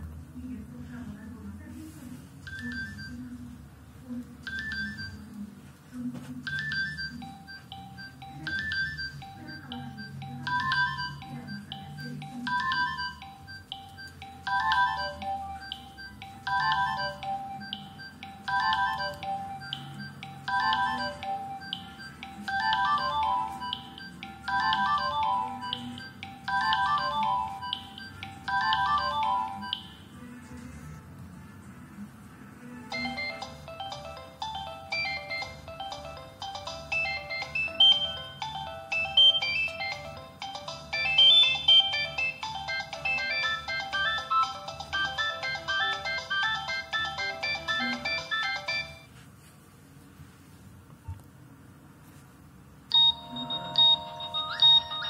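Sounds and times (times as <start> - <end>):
mobile phone ringtone: 2.4 - 3.4, 4.4 - 5.4, 6.4 - 30.6, 32.9 - 49.2, 52.9 - 55.0.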